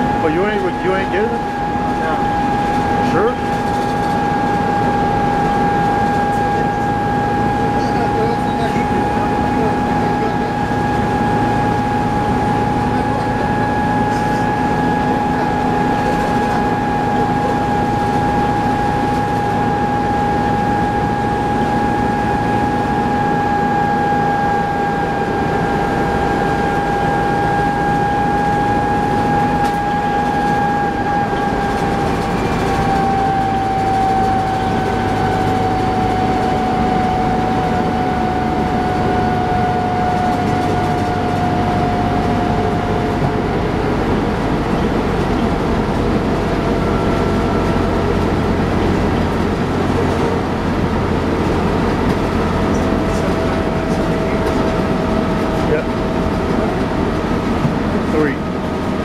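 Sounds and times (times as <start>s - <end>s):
bus drivetrain rumble: 0.0s - 59.0s
high transmission whine: 0.0s - 59.0s
lower whine: 0.0s - 59.0s
road noise: 0.0s - 59.0s.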